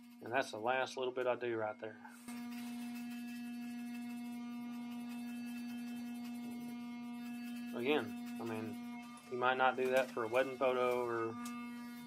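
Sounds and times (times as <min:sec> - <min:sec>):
electric hair clippers humming: 0:02.1 - 0:12.0.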